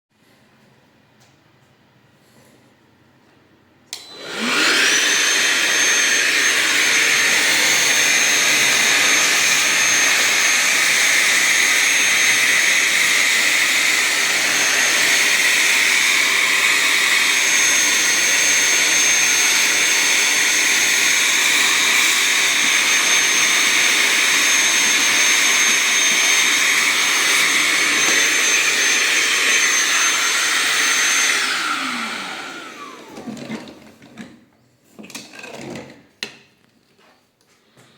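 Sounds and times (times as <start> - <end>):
handheld vacuum whining: 3.9 - 34.4.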